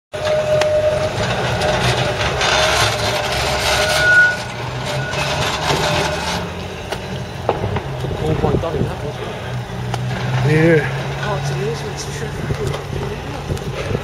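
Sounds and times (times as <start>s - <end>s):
electric tram rumbling and whining: 0.1s - 14.0s
higher tram whine: 0.1s - 14.0s.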